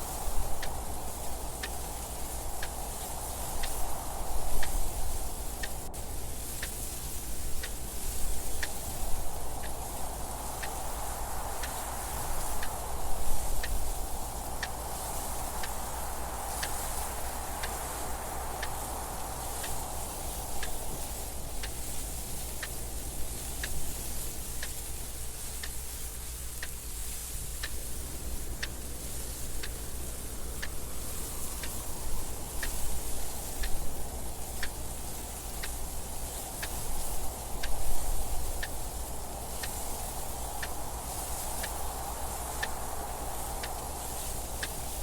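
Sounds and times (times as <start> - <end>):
wind noise: 0.0 - 45.0
clock ticking: 0.2 - 6.0, 6.6 - 45.0.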